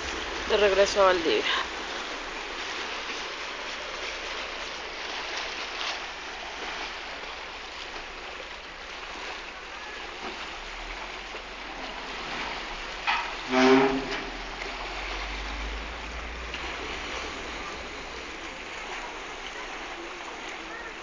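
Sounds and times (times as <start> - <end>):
water lapping: 0.0 - 21.0.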